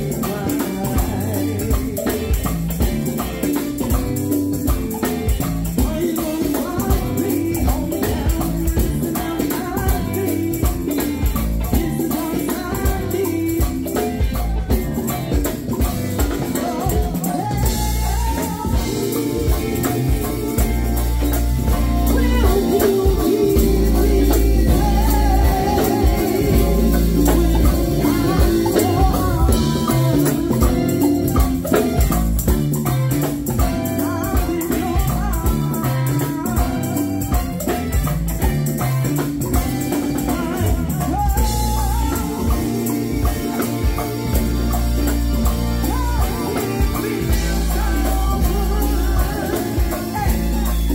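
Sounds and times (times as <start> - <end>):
person singing lead: 0.0 - 31.9, 33.5 - 37.8, 39.5 - 50.9
bass guitar: 0.0 - 50.9
drum kit: 0.0 - 50.9
jingling tambourine: 0.0 - 50.9.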